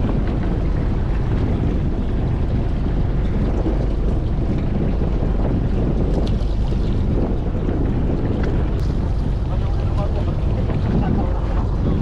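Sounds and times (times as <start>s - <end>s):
sea wash: 0.0s - 12.0s
wind on microphone: 0.0s - 12.0s.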